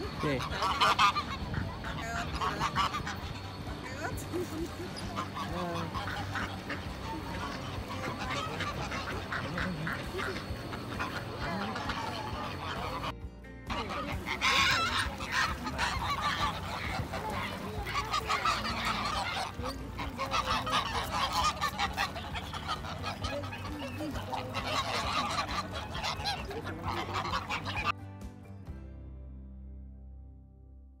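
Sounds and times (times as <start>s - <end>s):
geese honking: 0.0s - 28.0s.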